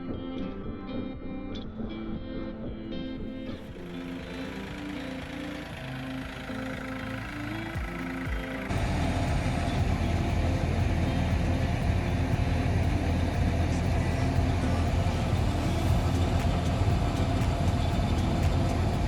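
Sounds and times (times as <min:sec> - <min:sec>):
excavator engine running: 0:03.6 - 0:19.0.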